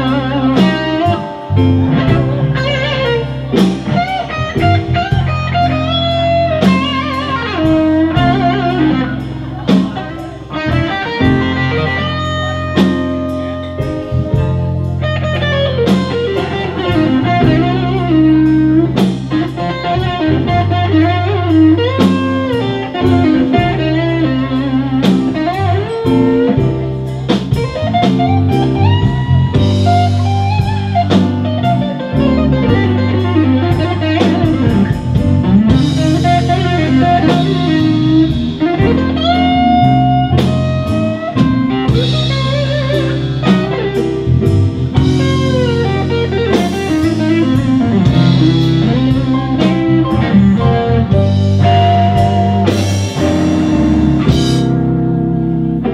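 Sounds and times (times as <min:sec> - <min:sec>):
drums beat: 0:00.0 - 0:55.3
electric guitars playing blues: 0:00.0 - 0:55.9.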